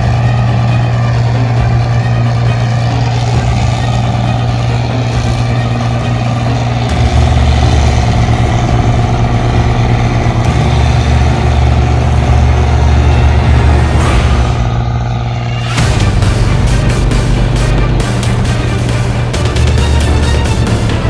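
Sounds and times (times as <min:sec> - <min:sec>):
combine harvester engine humming: 0:00.0 - 0:21.0
deeper drone: 0:00.0 - 0:21.0.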